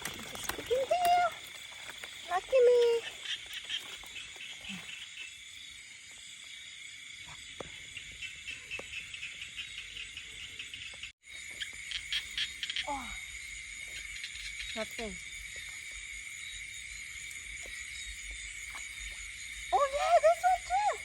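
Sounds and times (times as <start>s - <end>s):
insects and frogs trilling: 0.0s - 21.0s.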